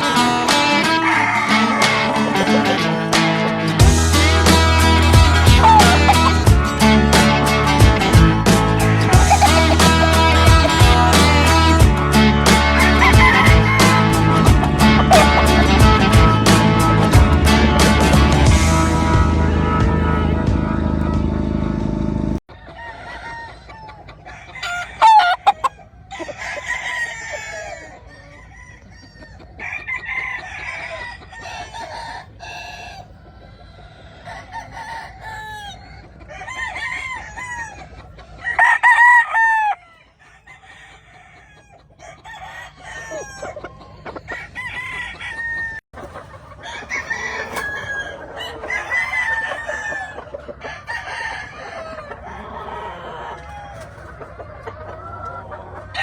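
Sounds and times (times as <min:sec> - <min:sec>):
roosters crowing: 0:00.0 - 0:21.0, 0:22.5 - 0:56.0.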